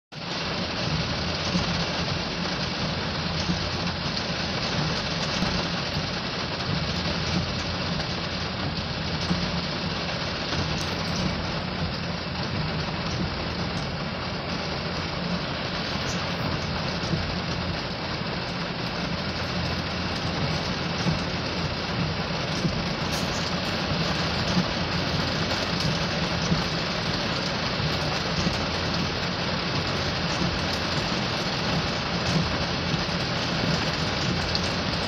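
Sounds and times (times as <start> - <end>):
heavy rain on car roof: 0.1 - 35.0
car engine idling: 0.3 - 35.0.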